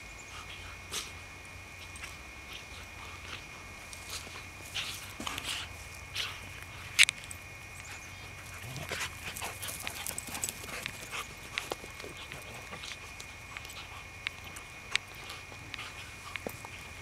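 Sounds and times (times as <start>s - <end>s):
dogs scuffling on grass: 0.4s - 17.0s.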